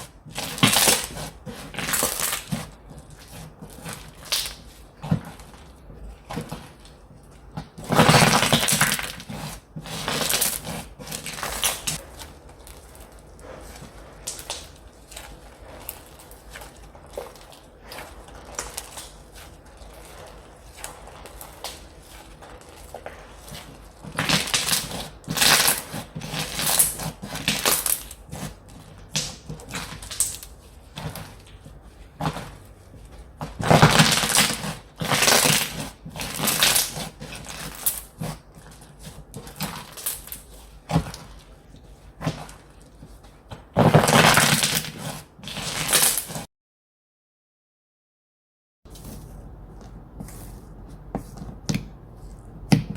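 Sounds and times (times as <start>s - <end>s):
slime squelching by hand: 0.0s - 46.5s.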